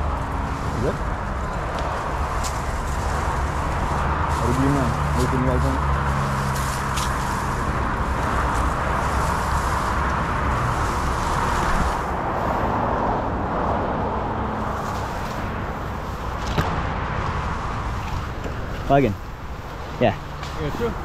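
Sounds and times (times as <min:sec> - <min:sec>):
leaves and branches rustling: 0:00.0 - 0:21.0.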